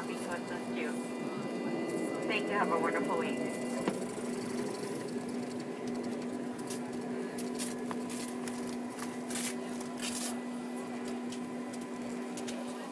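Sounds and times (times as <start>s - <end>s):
airliner cabin hum: 0.0s - 12.9s.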